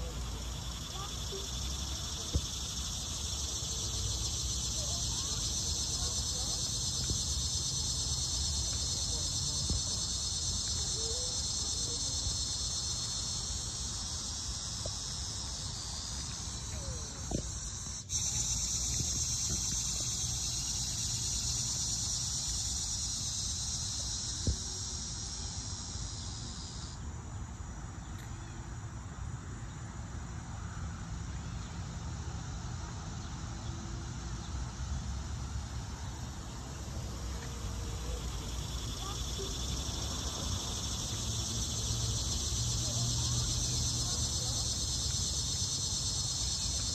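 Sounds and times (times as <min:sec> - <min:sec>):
insects chirring: 0:00.0 - 0:28.6, 0:29.6 - 0:46.9.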